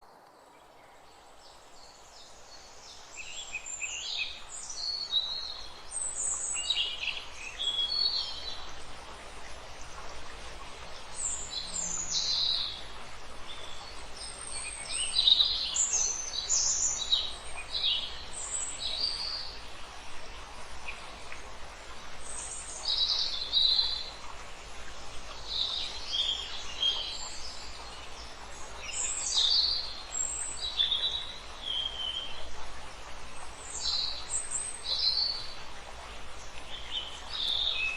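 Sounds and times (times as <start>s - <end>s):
faint hiss: 0.0s - 37.9s.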